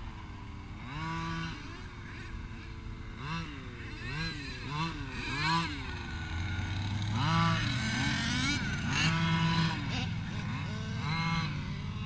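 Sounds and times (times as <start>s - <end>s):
rc buggy engine revving: 0.0s - 12.0s.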